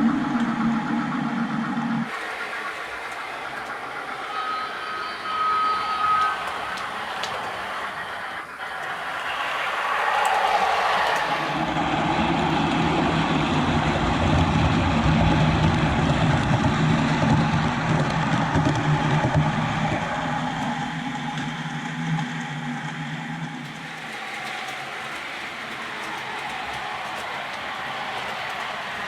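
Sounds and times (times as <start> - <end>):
model train motor and wheels: 2.0 - 23.0, 23.6 - 29.0.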